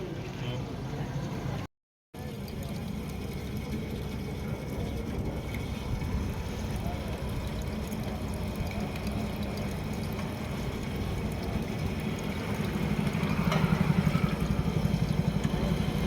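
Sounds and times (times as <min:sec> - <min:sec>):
diesel engine running: 0:02.3 - 0:16.0.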